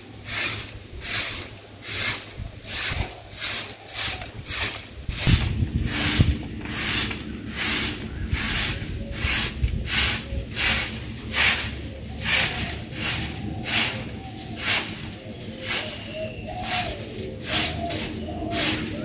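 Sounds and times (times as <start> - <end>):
broom sweeping: 0.0 - 19.0.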